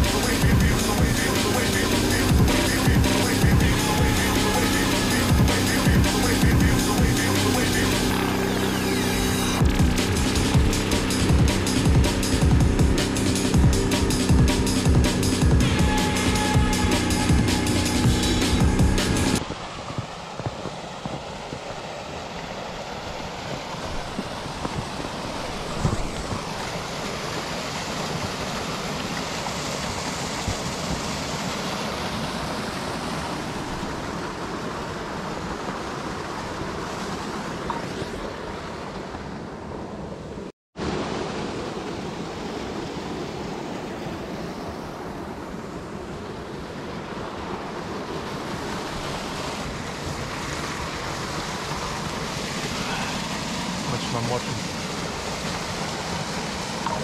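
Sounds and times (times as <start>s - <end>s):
stream and waterfall rushing: 0.0s - 57.0s.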